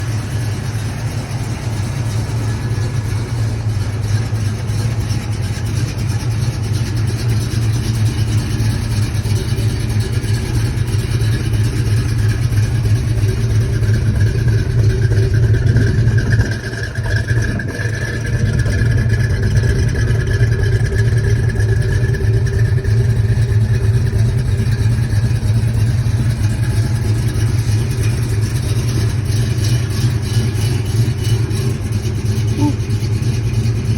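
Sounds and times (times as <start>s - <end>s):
car engine droning: 0.0s - 33.9s
engine lifter clatter: 0.0s - 33.9s.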